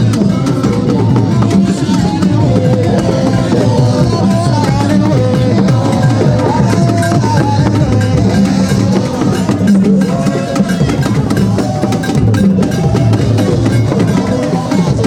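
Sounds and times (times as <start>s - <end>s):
music with busy drumming: 0.0s - 15.0s.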